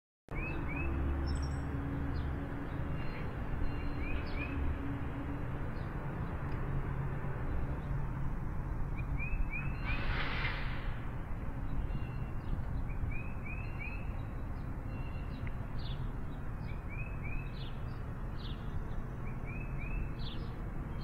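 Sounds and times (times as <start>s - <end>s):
small birds chirping: 0.3s - 4.7s, 5.3s - 21.0s.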